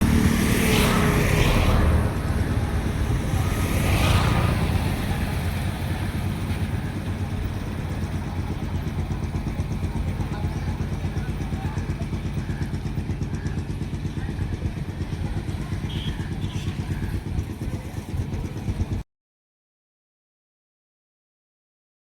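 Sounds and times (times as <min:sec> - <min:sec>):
vehicle engine low rumble: 0:00.0 - 0:19.0.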